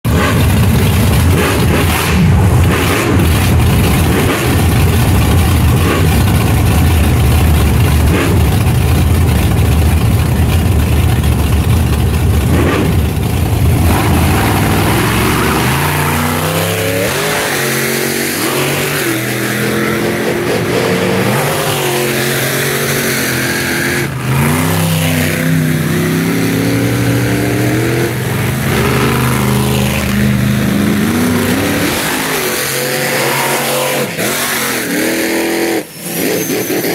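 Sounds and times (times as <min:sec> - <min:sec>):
monster truck engines revving: 0:00.0 - 0:36.9.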